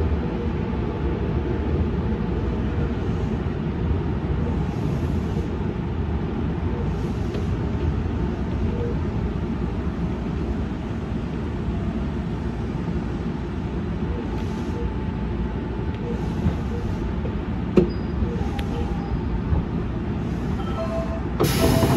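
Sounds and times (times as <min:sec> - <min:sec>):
electric train low rumble: 0:00.0 - 0:21.9.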